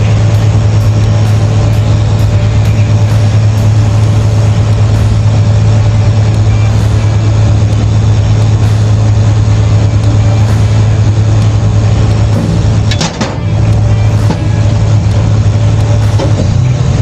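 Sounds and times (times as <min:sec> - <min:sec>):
crane engine humming: 0:00.0 - 0:17.0.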